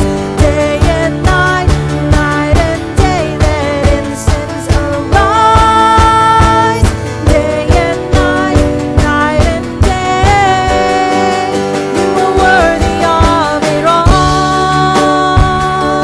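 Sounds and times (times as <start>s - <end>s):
drum beat: 0.0s - 16.0s
guitar: 0.0s - 16.0s
person singing: 0.0s - 16.0s.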